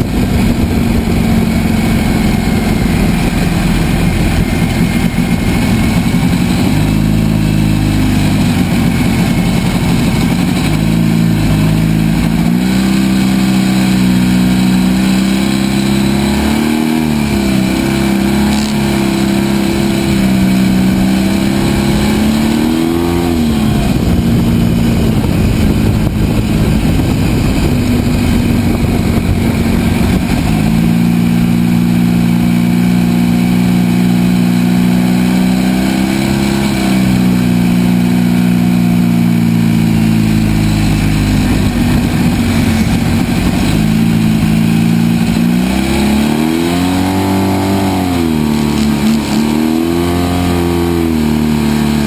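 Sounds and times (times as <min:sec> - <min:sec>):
atv engine running: 0:00.0 - 0:52.0
steady rushing noise: 0:00.0 - 0:52.0.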